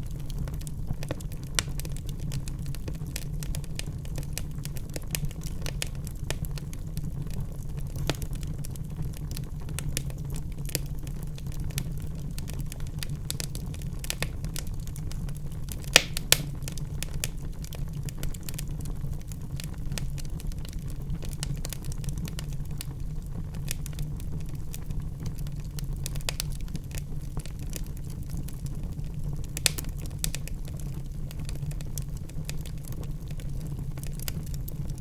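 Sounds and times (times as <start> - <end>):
wood fire crackling in a fireplace: 0.0 - 35.0.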